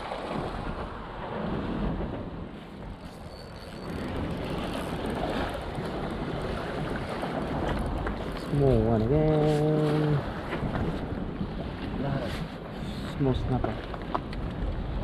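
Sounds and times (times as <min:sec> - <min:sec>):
waves lapping against rocks: 0:00.0 - 0:15.0
wind buffeting microphone: 0:00.0 - 0:15.0.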